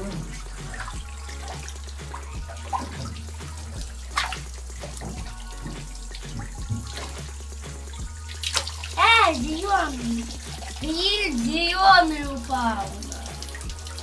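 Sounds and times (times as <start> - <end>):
water drips and splashes: 0.0 - 14.0
water rushing from shower hose: 0.0 - 14.0.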